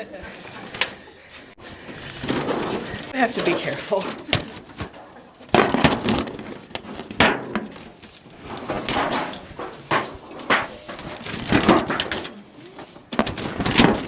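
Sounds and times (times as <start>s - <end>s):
aluminium foil pans crinkling: 1.8s - 14.0s.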